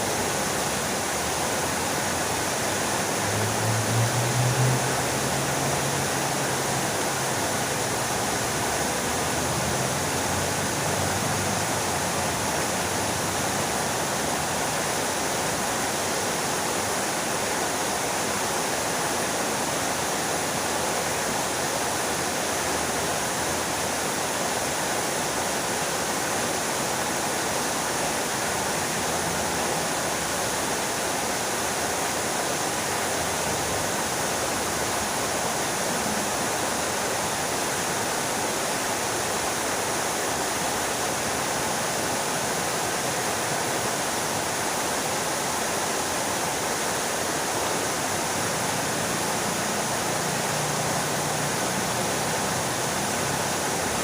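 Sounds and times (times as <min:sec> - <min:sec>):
fountain water splashing: 0:00.0 - 0:54.0.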